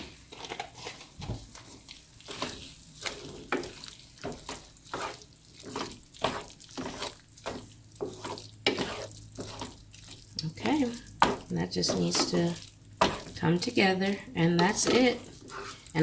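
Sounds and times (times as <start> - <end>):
faint pan sizzle: 0.0 - 16.0
wooden spoon scraping and sloshing: 0.0 - 16.0.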